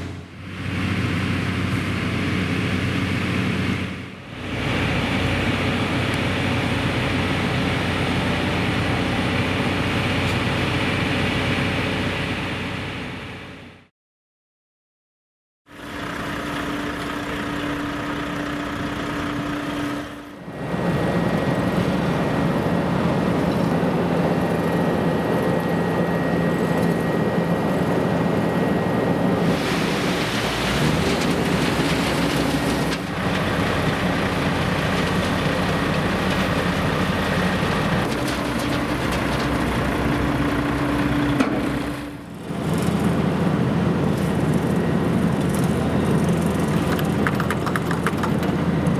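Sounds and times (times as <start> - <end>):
heavy engines rumbling: 0.0 - 13.8, 15.7 - 48.9.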